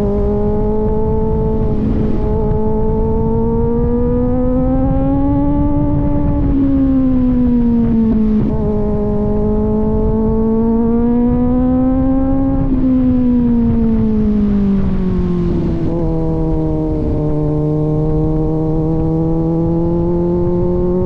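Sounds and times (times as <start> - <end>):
low rumble of wind: 0.0 - 21.0
motorcycle exhaust note: 0.0 - 21.0.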